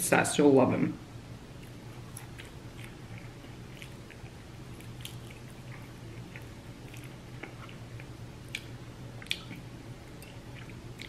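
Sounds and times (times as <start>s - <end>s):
steady low hum: 0.0s - 11.0s
wet chewing and mouth clicks: 1.6s - 11.0s.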